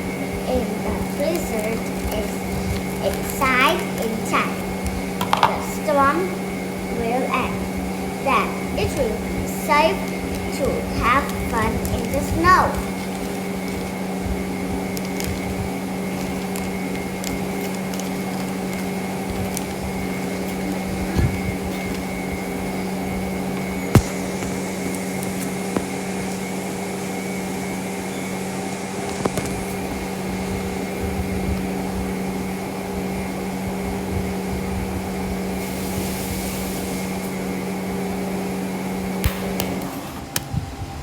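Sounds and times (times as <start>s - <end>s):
machine motor humming: 0.0s - 41.0s.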